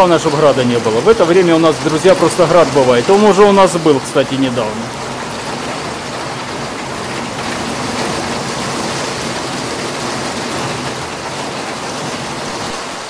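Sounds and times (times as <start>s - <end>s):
heavy rain on wet paving: 0.0s - 13.0s.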